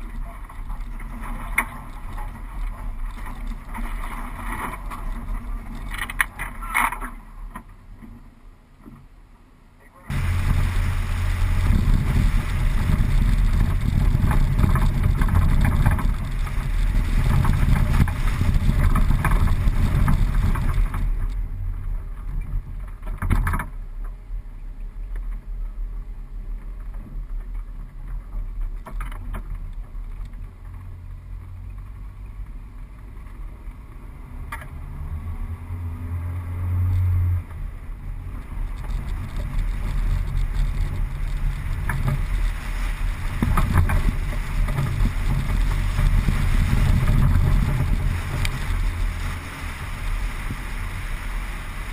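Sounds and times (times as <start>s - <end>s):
road and body noise: 0.0s - 51.9s
car engine running under load: 7.2s - 51.9s.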